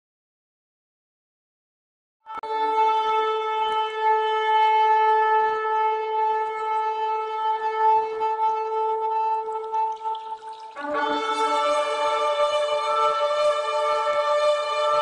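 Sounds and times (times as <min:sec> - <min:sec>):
long steady horn-like note: 0:02.3 - 0:15.0.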